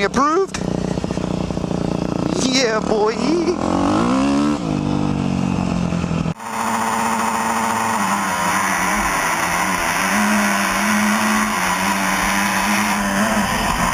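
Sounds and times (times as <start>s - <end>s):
engine at wavering pitch: 0.0s - 13.9s
off-road vehicle engine running: 0.0s - 13.9s.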